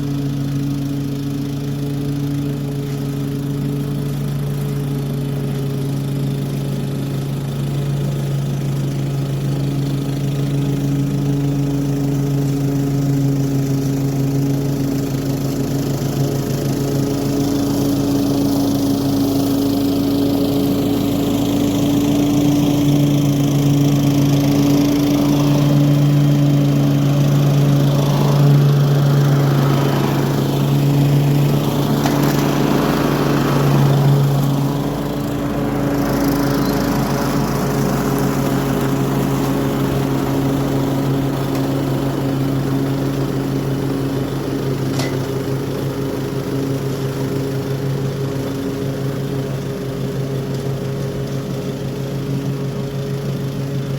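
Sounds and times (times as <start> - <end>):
lawn mower engine hum: 0.0 - 53.9.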